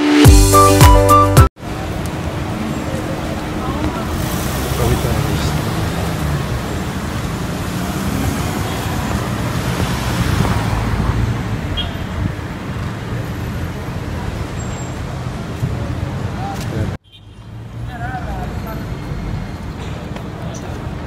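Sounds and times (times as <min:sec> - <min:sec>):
car engines rumbling: 0:01.6 - 0:21.0.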